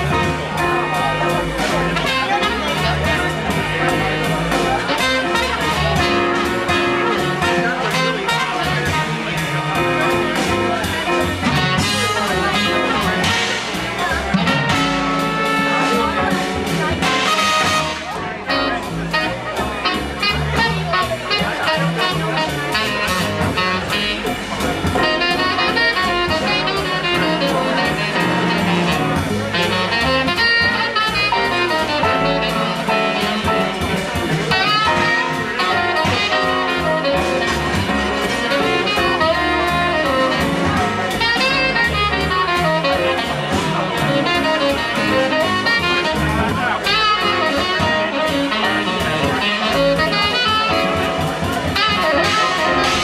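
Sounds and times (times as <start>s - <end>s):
acoustic bass: 0.0s - 53.0s
drums with cymbal pattern: 0.0s - 53.0s
jazz horn lines: 0.0s - 53.0s
piano: 0.0s - 53.0s.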